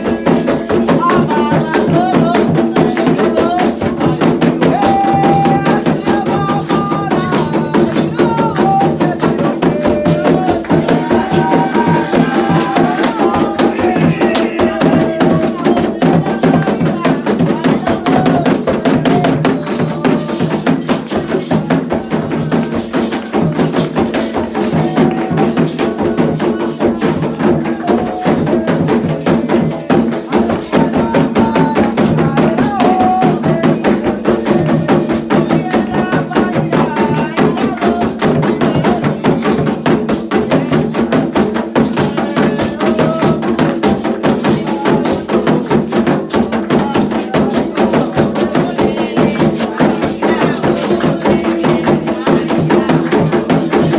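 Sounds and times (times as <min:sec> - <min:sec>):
drums beating: 0:00.0 - 0:53.9
struck percussion: 0:00.0 - 0:53.9
voices singing: 0:00.0 - 0:53.9.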